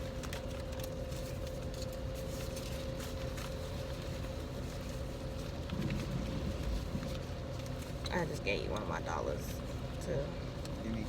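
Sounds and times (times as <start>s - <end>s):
car engine drone: 0.0s - 11.0s.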